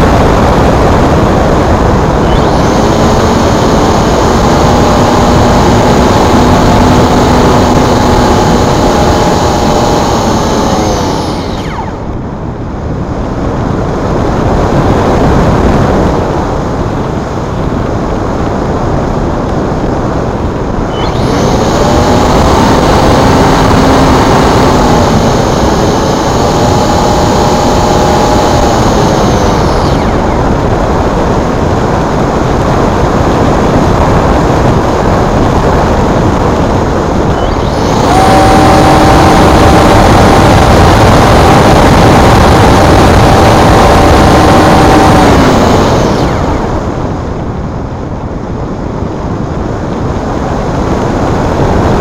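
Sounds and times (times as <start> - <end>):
rc glider motor whine: 0.0 - 52.0
steady rushing noise: 0.0 - 52.0.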